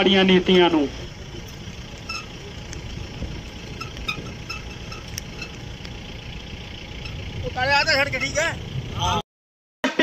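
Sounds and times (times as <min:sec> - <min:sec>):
motorcycle engines rumbling: 0:00.0 - 0:09.2.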